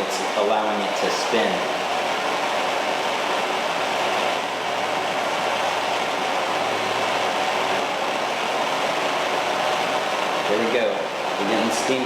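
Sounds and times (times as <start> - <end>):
steady rushing steam hiss: 0.0 - 12.0.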